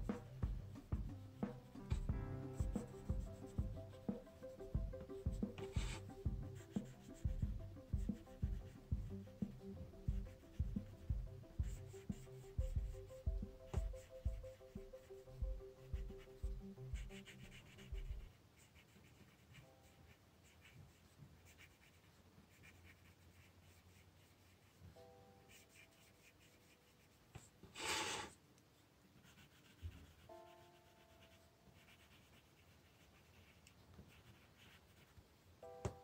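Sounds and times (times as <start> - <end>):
soft background music: 0.0 - 28.4, 29.0 - 36.0
pen scratching on paper: 2.7 - 24.8, 25.4 - 28.4, 29.2 - 35.2.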